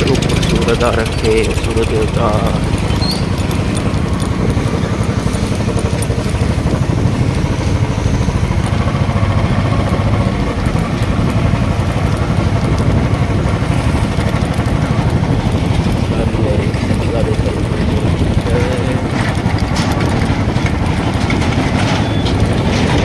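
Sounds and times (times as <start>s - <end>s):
motorcycle engine rumbling: 0.0s - 23.0s
road and air noise: 0.0s - 23.0s.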